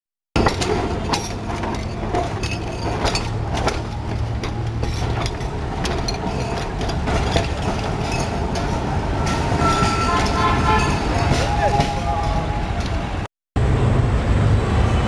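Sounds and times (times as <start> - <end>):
tram wheels clanking on rails: 0.4 - 13.3.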